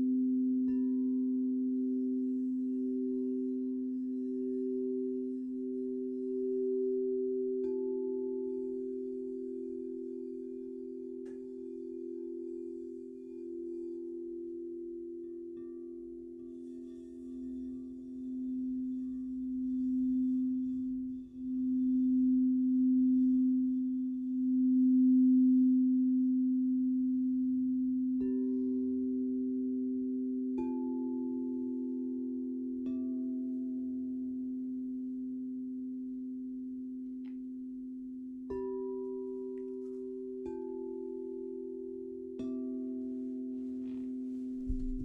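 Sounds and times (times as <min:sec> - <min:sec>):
low singing bowl humming: 0:00.0 - 0:45.0.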